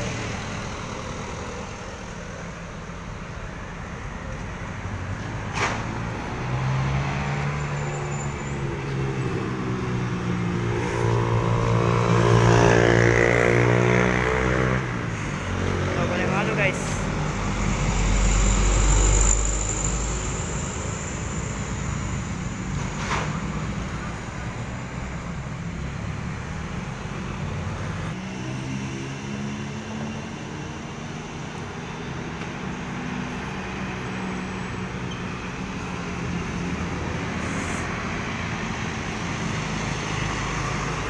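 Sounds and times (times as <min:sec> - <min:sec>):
dump truck passing: 0:00.0 - 0:41.0
motorcycles and cars passing: 0:00.0 - 0:41.0
truck engine drone: 0:00.0 - 0:41.0.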